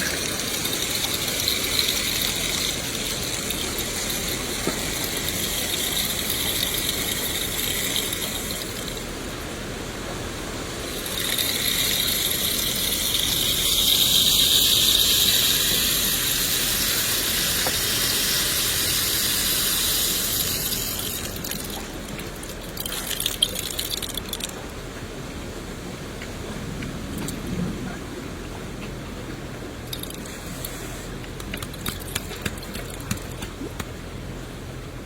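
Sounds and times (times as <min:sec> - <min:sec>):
rain hissing: 0:00.0 - 0:28.7, 0:29.7 - 0:34.7.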